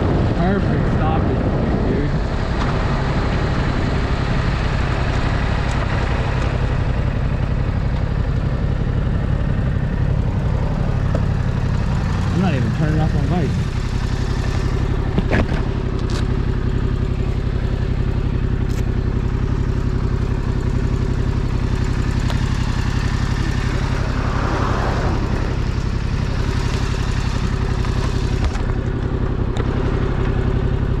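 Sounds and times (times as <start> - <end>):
motorcycle engine idling: 0.0 - 31.0
passing vehicle: 0.0 - 31.0.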